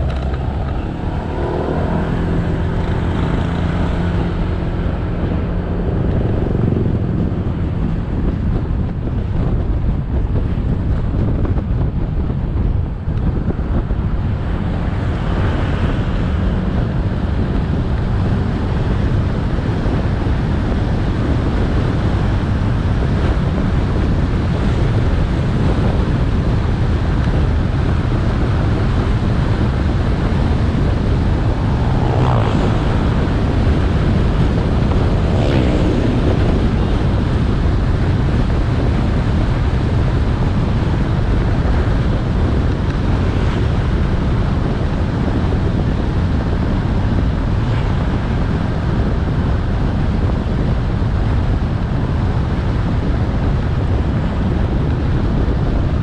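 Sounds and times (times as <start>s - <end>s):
motorcycle engine running: 0.0s - 55.9s
road and traffic noise: 0.0s - 56.0s
wind on microphone: 0.0s - 56.0s.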